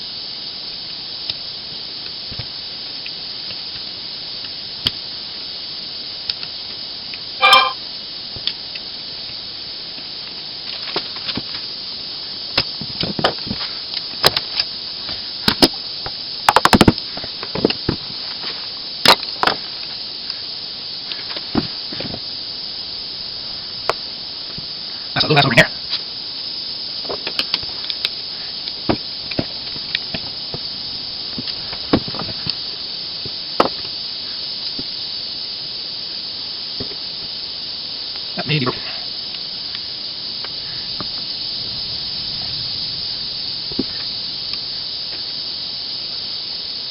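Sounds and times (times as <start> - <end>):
steady hiss: 0.0 - 46.9.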